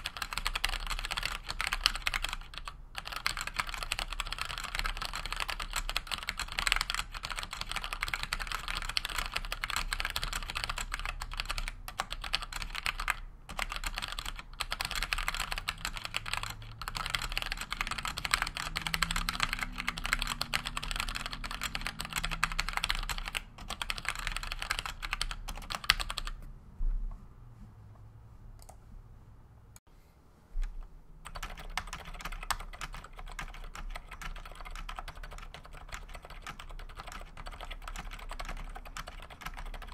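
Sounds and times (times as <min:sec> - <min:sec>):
typing on mechanical keyboard: 0:00.0 - 0:26.4, 0:31.2 - 0:39.9.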